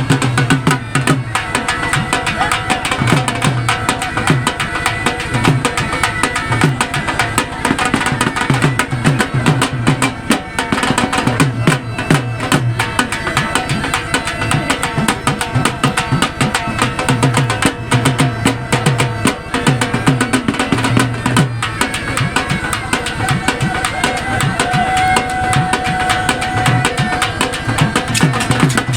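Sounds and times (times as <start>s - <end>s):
background music with drums: 0.0s - 28.9s.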